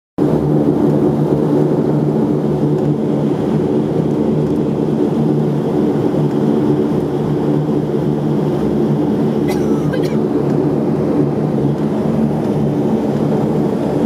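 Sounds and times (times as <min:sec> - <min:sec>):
turboprop engine drone: 0:00.2 - 0:14.0.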